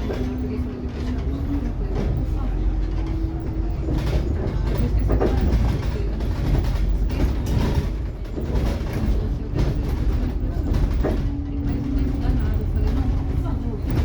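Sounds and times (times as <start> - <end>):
bus body rattling: 0.0 - 14.0
bus engine and road rumble: 0.0 - 14.0.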